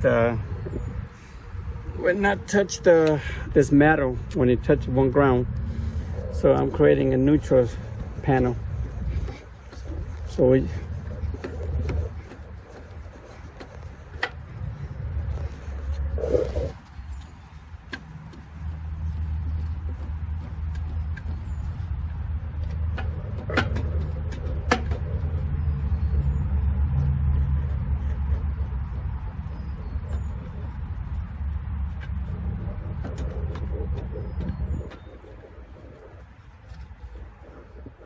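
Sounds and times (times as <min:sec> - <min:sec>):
low motor rumble: 0:00.0 - 0:38.0.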